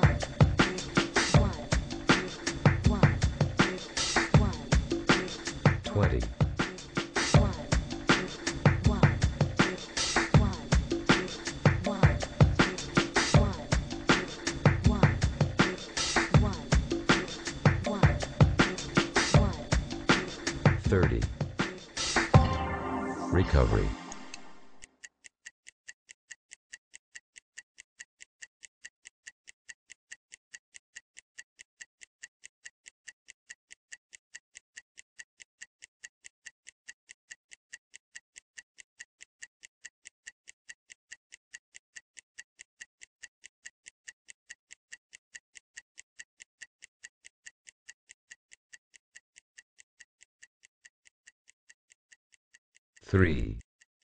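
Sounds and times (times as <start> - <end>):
rapid high-pitched timer ticking: 0.0 - 53.7.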